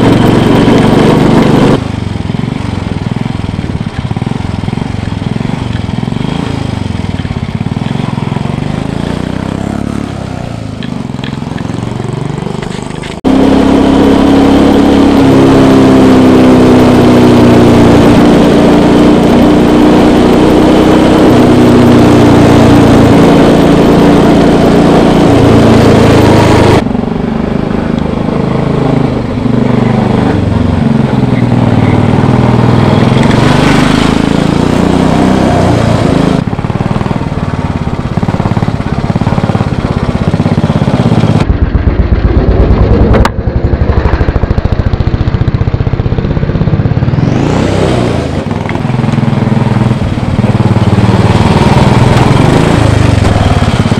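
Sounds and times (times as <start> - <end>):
scooter engine running: 0.0 - 53.9.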